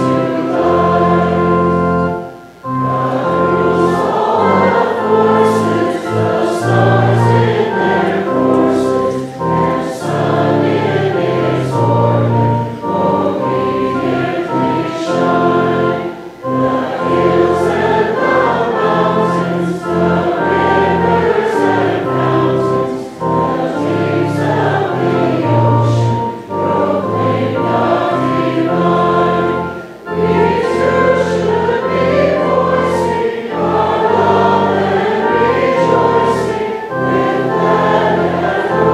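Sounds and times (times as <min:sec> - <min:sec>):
instrumental accompaniment: 0:00.0 - 0:38.9
many voices singing a hymn: 0:00.0 - 0:38.9.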